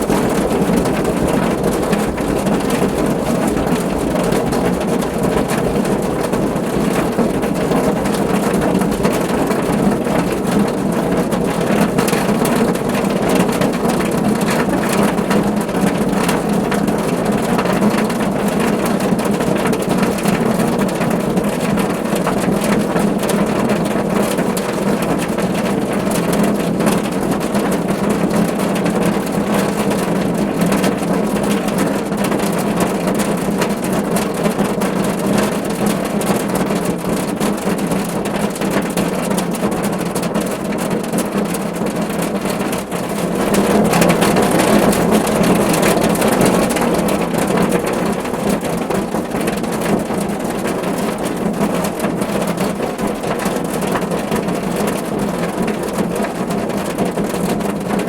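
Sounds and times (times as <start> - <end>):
rain on a car roof: 0.0 - 58.0.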